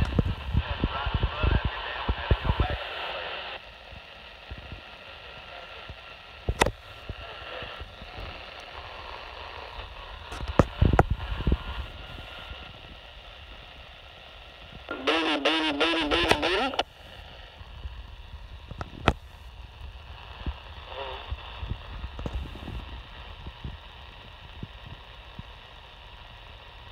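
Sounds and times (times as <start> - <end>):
distorted radio transmission: 0.0 - 26.9
radio static hiss: 0.0 - 26.9.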